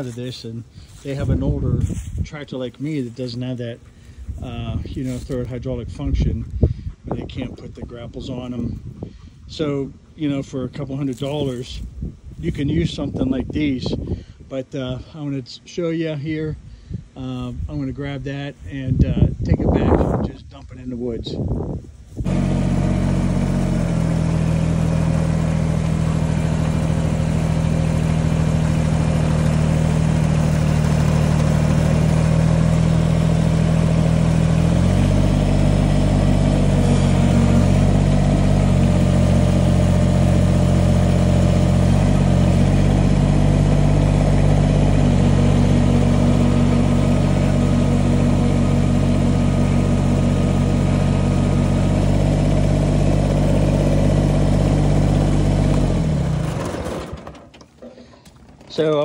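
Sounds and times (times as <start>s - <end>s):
tractor diesel engine running: 0.0s - 11.8s, 22.2s - 59.0s.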